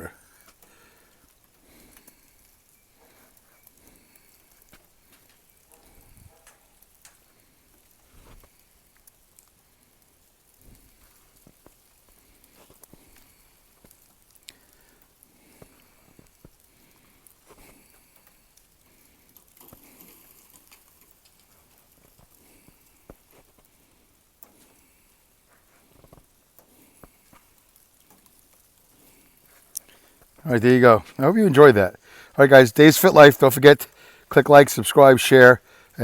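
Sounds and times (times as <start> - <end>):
snow and drips falling from trees: 0.0 - 36.0.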